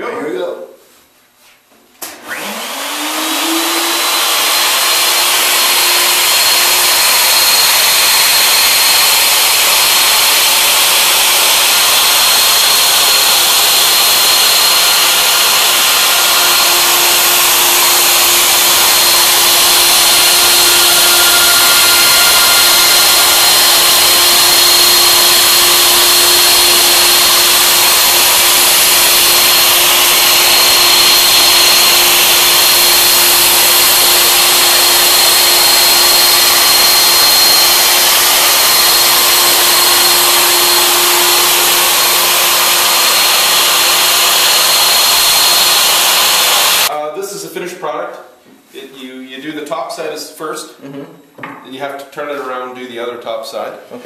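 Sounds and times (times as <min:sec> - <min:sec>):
router spindles whining: 0:02.1 - 0:46.9
router bits carving wood hiss: 0:02.3 - 0:46.9.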